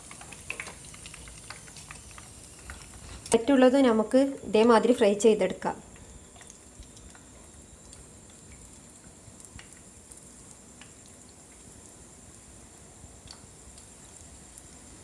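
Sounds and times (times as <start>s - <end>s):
oil popping and crackling: 0.0s - 4.6s, 5.9s - 15.0s
chicken deep-frying in oil: 0.0s - 15.0s.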